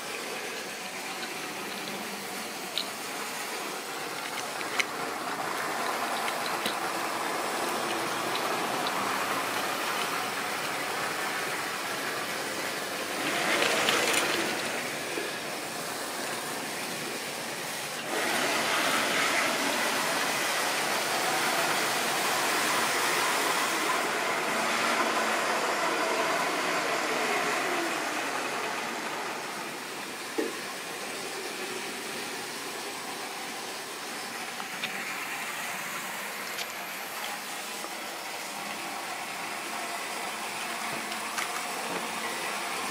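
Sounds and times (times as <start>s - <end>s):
model trains whirring on rails: 0.0s - 42.9s.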